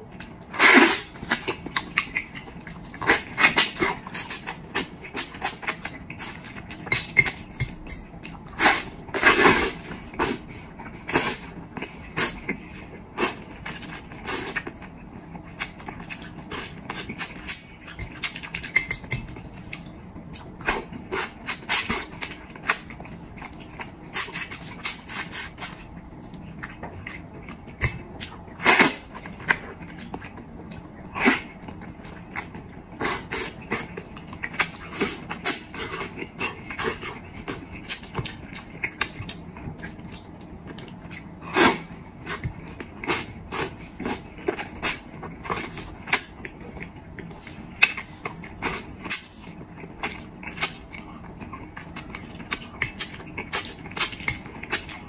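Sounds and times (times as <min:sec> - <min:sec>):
wet chewing and lip smacking: 0:00.0 - 0:55.0.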